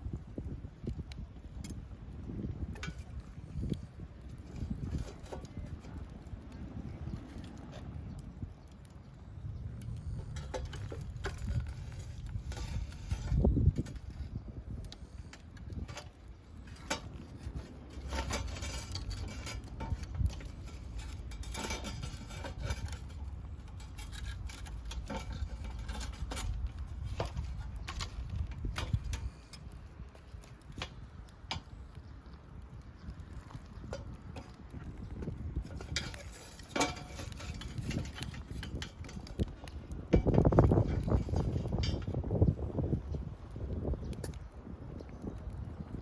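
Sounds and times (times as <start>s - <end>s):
wind rumble on microphone: 0.0s - 46.0s.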